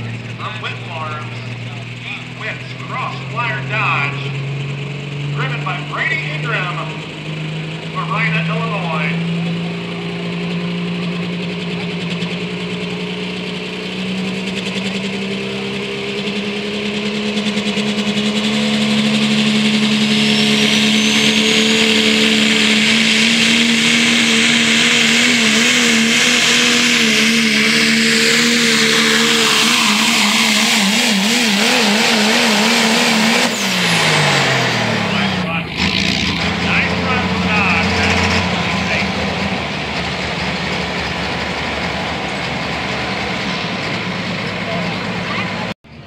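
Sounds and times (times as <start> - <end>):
diesel truck engine revving: 0.0 - 46.0
high engine whine: 0.0 - 46.0.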